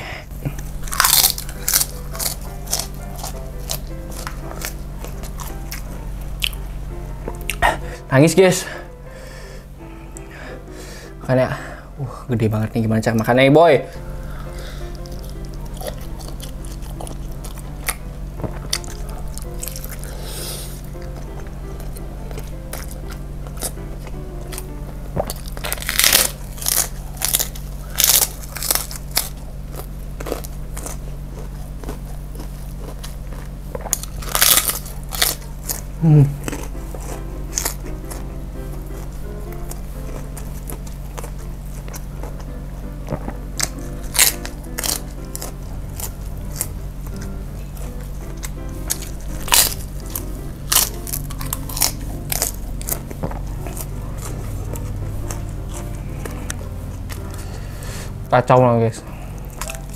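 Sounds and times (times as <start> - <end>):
crackers crunching: 0.2 - 11.8, 12.9 - 59.9.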